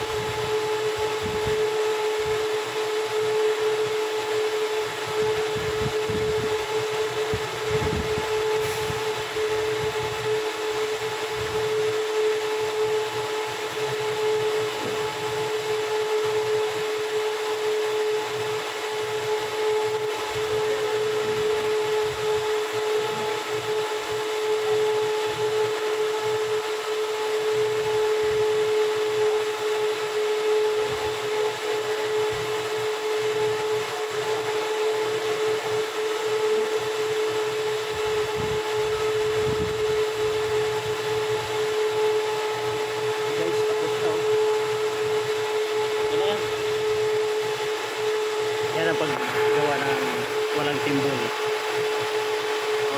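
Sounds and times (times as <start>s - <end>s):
motor running with even hum: 0.0s - 52.9s.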